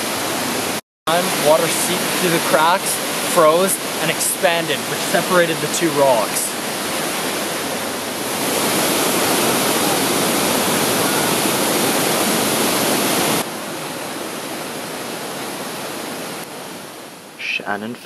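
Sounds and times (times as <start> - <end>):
water cascading over boulders: 0.0 - 17.1.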